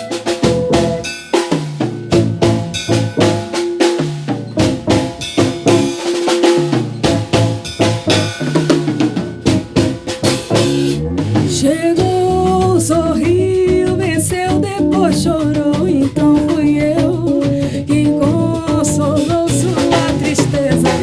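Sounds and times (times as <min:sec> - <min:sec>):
bossa nova band playing: 0:00.0 - 0:21.0
drum kit groove with rimshots: 0:00.0 - 0:21.0.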